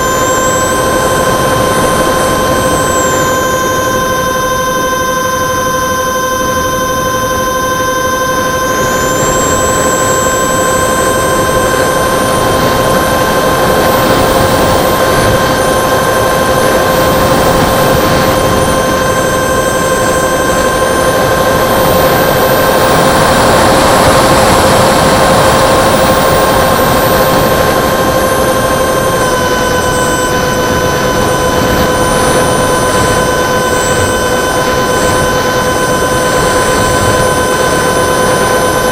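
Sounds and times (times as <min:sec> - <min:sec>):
model jet fans whining: 0:00.0 - 0:38.9.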